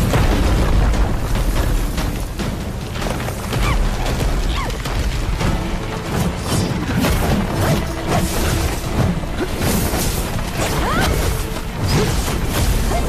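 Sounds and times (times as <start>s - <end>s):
dramatic background music: 0.0s - 13.0s.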